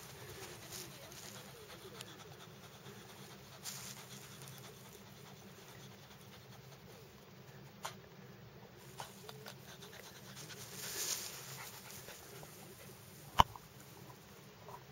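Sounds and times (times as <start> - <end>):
dog panting: 0.0 - 8.0, 8.9 - 13.2.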